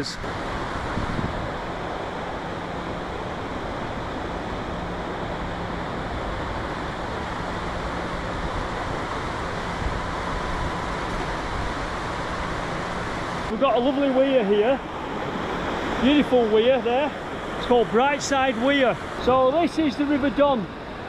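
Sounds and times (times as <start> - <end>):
water roaring over weir: 0.0 - 21.0.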